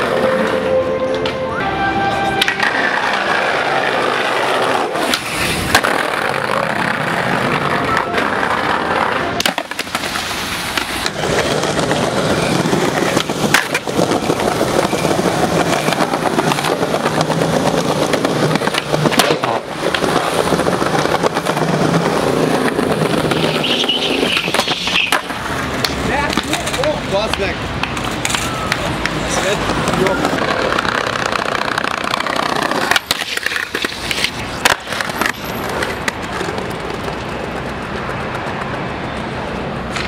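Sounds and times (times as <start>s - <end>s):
skateboard rolling on stone: 0.0s - 1.4s, 2.3s - 40.0s
skateboard clacks: 2.4s - 40.0s.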